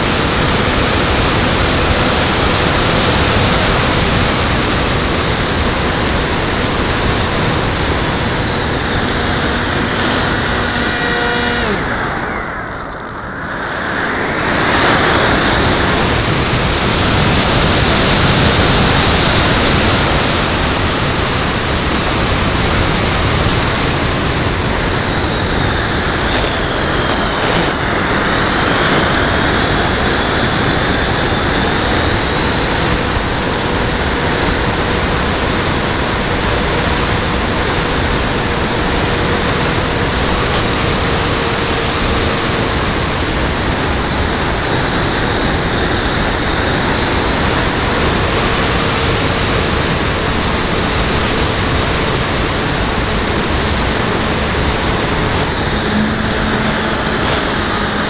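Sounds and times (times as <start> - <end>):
model plane motor whine: 0.0 - 58.0
rushing air: 0.0 - 58.0.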